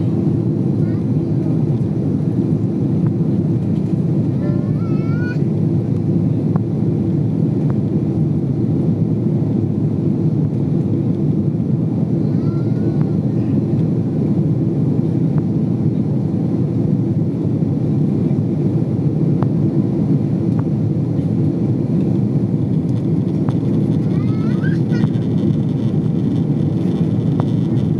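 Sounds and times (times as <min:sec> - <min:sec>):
jet engine and airflow noise: 0:00.0 - 0:27.9.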